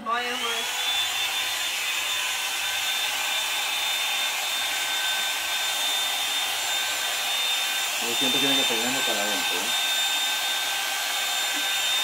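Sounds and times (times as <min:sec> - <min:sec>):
hair dryer blowing air: 0:00.0 - 0:12.0
high motor whine: 0:00.0 - 0:12.0.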